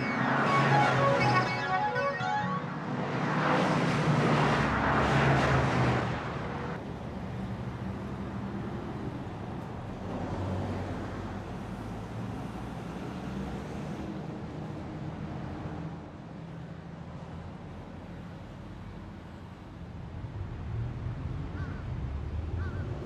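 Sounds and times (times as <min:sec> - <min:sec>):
low traffic rumble: 0:00.0 - 0:23.0
traffic rush: 0:00.0 - 0:23.0.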